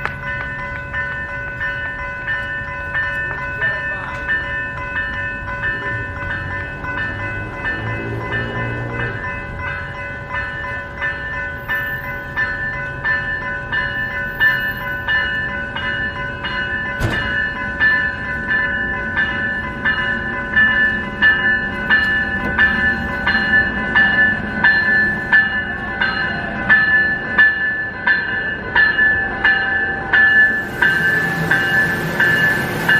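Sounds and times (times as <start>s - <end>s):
low train rumble: 0.0s - 32.9s
railroad crossing bell ringing: 0.0s - 32.9s.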